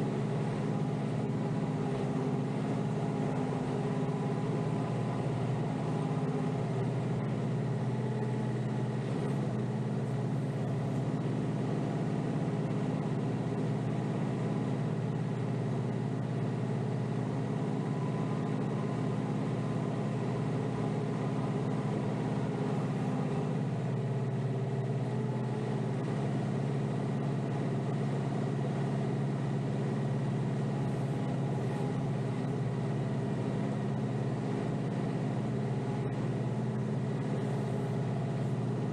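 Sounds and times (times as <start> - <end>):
steady whine: 0.0 - 38.9
tractor diesel engine running: 0.0 - 38.9.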